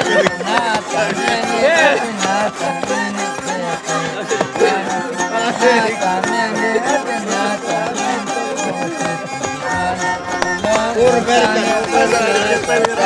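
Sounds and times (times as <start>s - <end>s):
fiddle melody: 0.0s - 13.0s
plucked string accompaniment: 0.0s - 13.0s.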